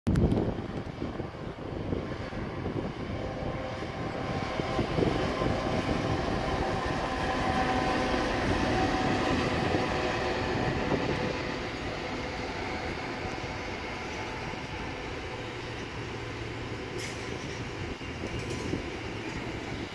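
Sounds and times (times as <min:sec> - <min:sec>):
freight train passing: 0:00.2 - 0:19.9.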